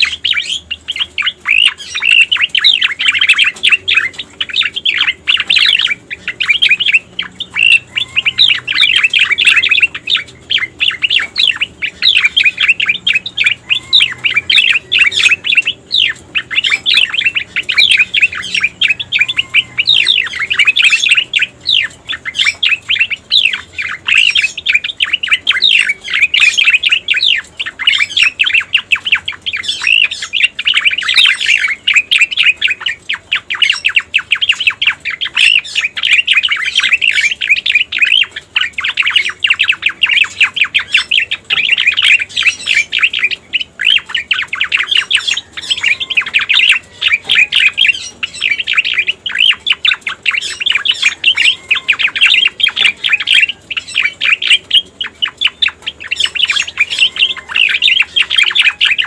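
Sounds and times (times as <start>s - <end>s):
bird chirping and twittering: 0.0s - 59.0s.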